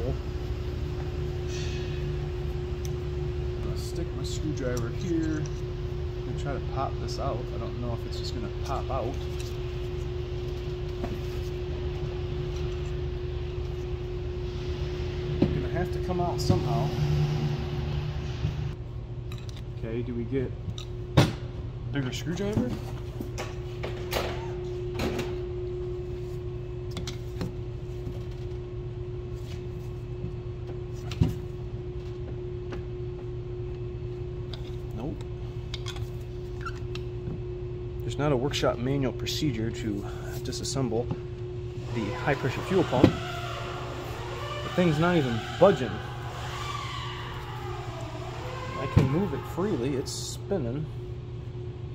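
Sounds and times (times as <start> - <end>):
mechanical hum with drone tone: 0.0 - 51.9.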